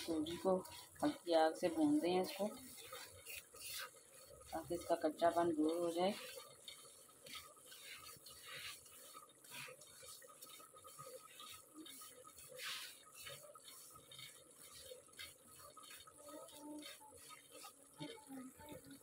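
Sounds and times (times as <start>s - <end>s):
spatula scraping in a pan: 0.0s - 19.0s.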